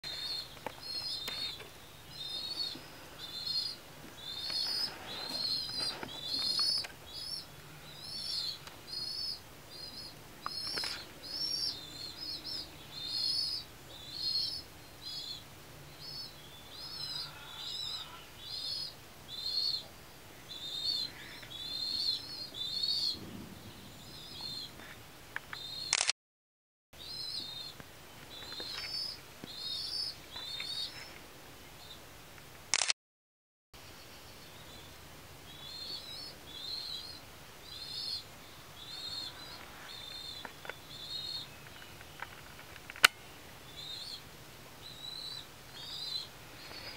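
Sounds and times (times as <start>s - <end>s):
baby pigeons squeaking: 0.1s - 24.9s, 27.0s - 31.2s, 35.5s - 42.9s, 43.7s - 44.2s, 44.8s - 46.9s.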